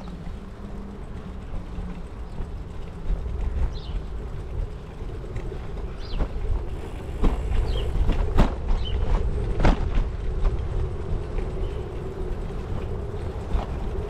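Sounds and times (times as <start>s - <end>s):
bike tyres rolling on pavement: 0.0s - 14.0s
wind rumbling over microphone: 0.0s - 14.0s.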